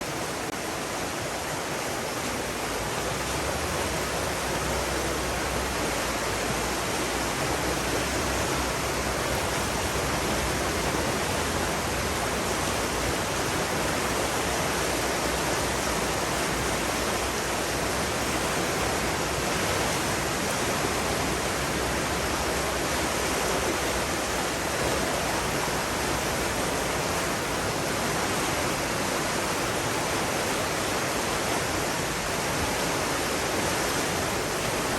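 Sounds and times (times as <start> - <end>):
rushing water roar: 0.0 - 34.9.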